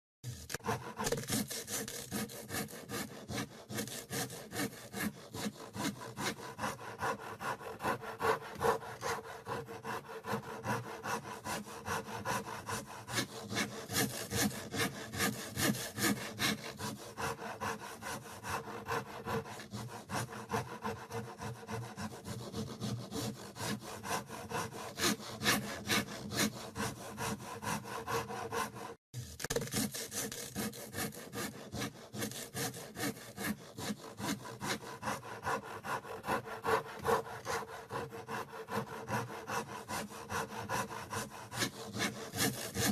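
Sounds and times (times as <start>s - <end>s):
handsaw cutting wood: 0.2s - 42.9s.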